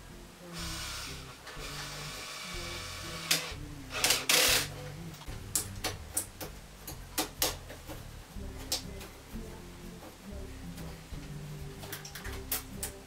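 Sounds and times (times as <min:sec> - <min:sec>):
background guitar music: 0:00.0 - 0:13.0.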